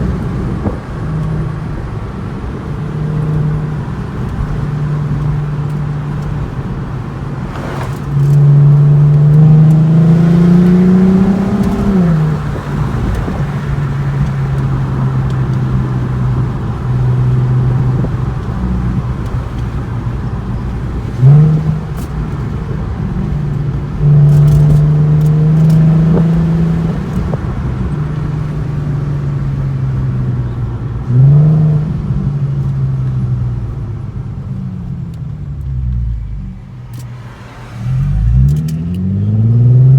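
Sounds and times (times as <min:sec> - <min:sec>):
car engine accelerating: 0:00.0 - 0:39.9
engine throttle blips: 0:00.0 - 0:39.9.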